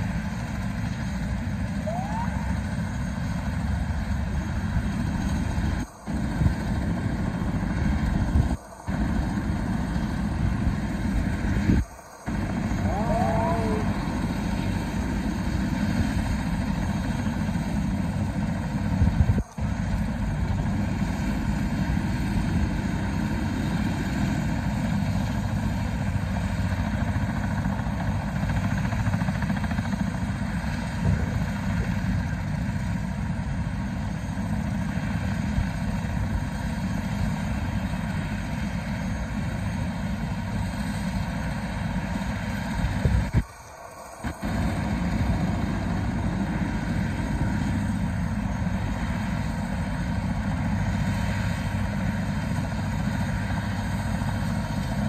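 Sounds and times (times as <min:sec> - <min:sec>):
helicopter engine and rotor running: 0:00.0 - 0:55.0.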